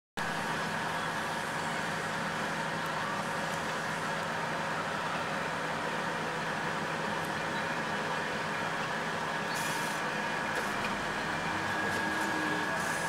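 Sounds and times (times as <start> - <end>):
heavy engine running: 0.2 - 13.0.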